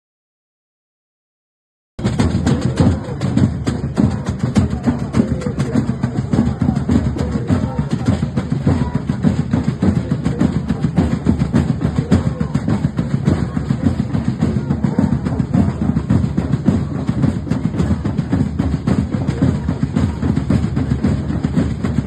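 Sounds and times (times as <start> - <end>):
music with busy drumming: 2.0 - 22.0.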